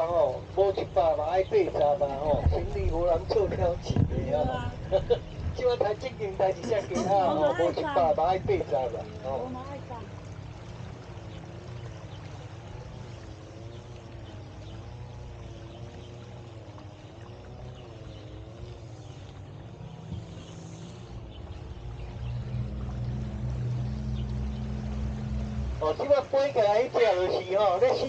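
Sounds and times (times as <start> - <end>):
electric boat motor humming: 0.0 - 28.0.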